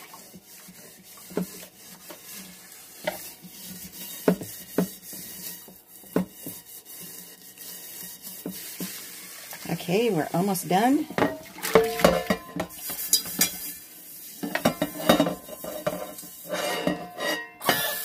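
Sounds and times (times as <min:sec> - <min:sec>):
scrubbing pad scraping a pot: 0:00.0 - 0:18.0.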